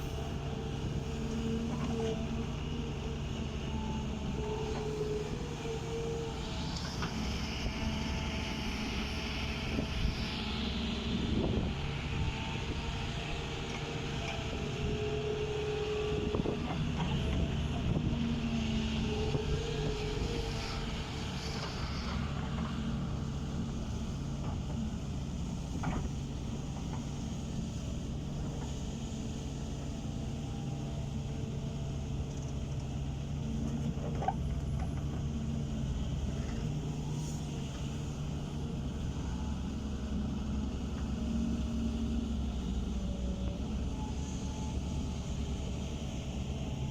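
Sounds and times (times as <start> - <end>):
diesel excavator engine running: 0.0 - 46.9.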